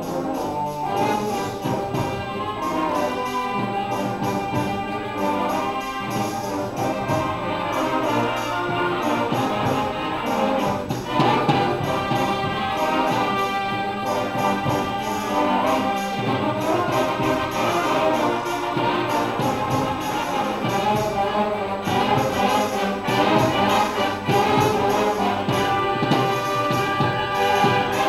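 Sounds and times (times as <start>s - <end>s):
concert band playing mambo: 0.0s - 28.0s.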